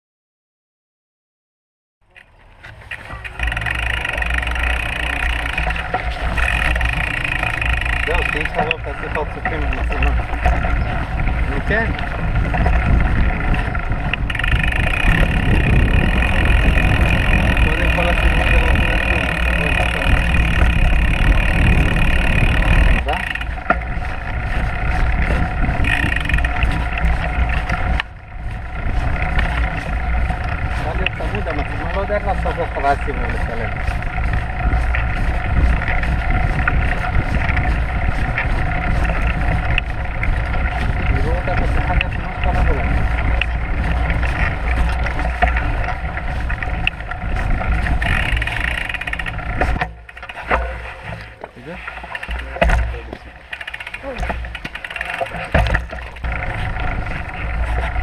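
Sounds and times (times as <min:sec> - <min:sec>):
bike rattling over bumps: 0:02.0 - 0:58.0
bicycle hub buzzing: 0:02.1 - 0:58.0
tyres rolling on dirt: 0:02.1 - 0:58.0
wind on microphone: 0:03.2 - 0:51.2, 0:55.3 - 0:58.0.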